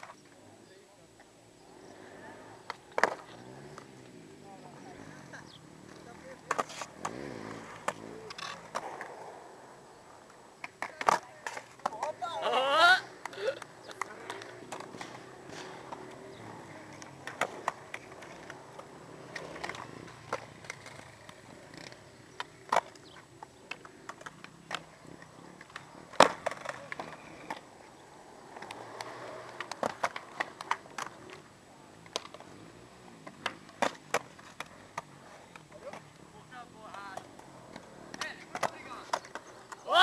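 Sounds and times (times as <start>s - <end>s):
skateboard clacks: 0.0s - 0.6s, 1.2s - 4.2s, 4.9s - 40.0s
skateboard wheels rolling: 0.0s - 40.0s.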